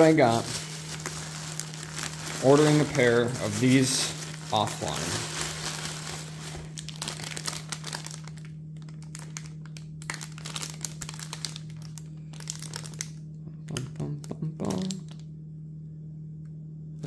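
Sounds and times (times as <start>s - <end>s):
plastic bag crinkling: 0.0s - 13.8s
steady low hum: 0.0s - 17.0s.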